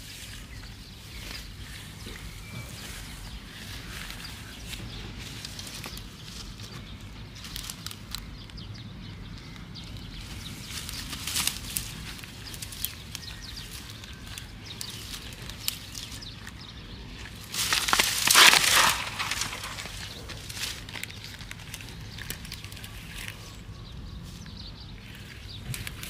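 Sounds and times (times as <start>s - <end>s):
dry grass crackling and rustling: 0.0s - 26.0s.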